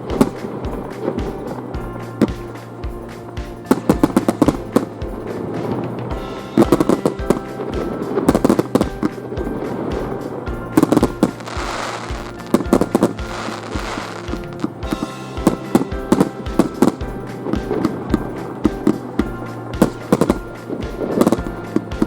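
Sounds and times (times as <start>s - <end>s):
background music: 0.0s - 22.0s
fireworks bursting: 0.0s - 22.0s
fireworks crackling hiss: 0.0s - 22.0s.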